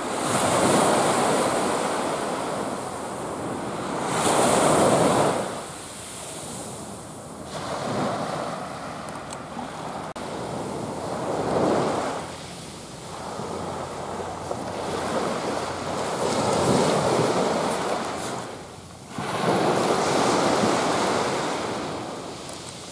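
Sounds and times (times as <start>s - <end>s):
small surf breaking on beach: 0.0s - 22.9s.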